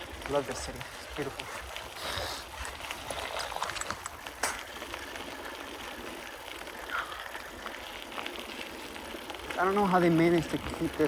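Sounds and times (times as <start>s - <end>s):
bicycle rattles and ticks: 0.0s - 11.0s
bicycle tyres rolling on trail: 0.0s - 11.0s.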